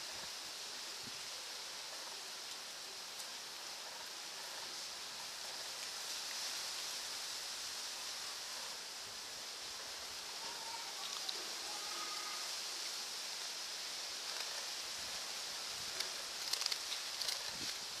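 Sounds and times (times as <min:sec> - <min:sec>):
steady high hiss: 0:00.0 - 0:18.0.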